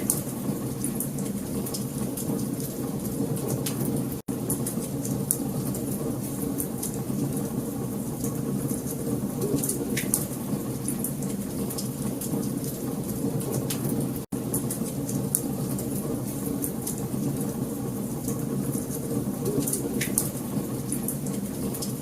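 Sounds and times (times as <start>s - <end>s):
wood fire burning: 0.0s - 22.0s.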